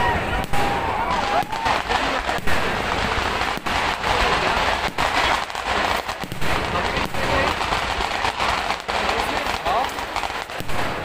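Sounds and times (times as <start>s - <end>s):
fireworks banging and crackling: 0.0s - 11.0s.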